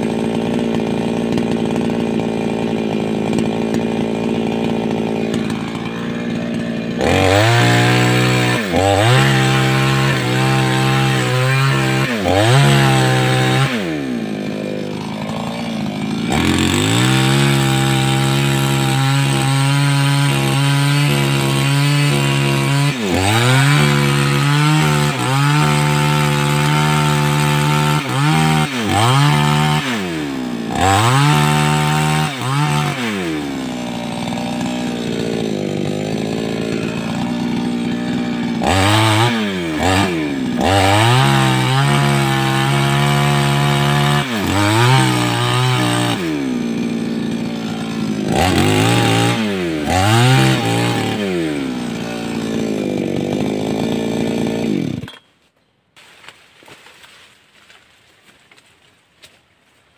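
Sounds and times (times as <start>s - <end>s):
chainsaw cutting wood: 0.0s - 55.4s, 56.0s - 59.4s.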